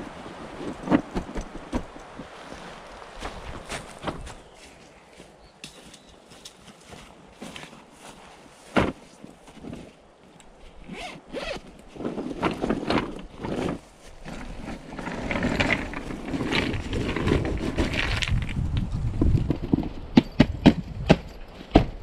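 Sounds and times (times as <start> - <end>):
rustling and scraping: 0.0 - 22.0.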